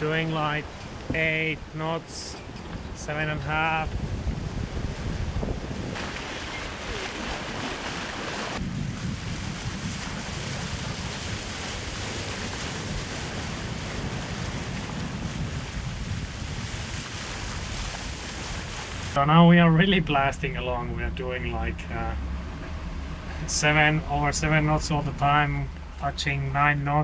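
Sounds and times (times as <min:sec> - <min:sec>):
wind buffeting microphone: 0:00.0 - 0:26.0
waves rushing along boat: 0:00.0 - 0:27.0.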